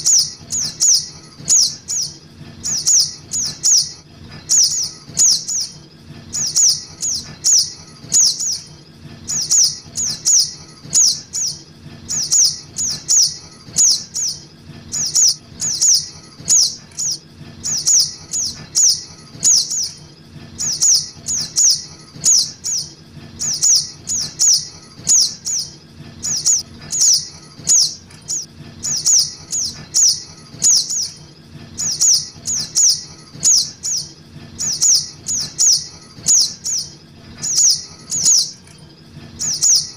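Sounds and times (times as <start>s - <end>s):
bird high chipping calls: 0.0s - 8.7s, 9.3s - 20.0s, 20.6s - 31.2s, 31.8s - 38.6s, 39.4s - 39.9s.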